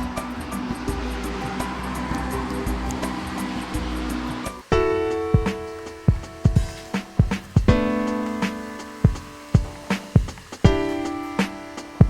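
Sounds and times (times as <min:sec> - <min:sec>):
held music chord: 0:00.0 - 0:12.0
steady drum beat: 0:00.0 - 0:12.0.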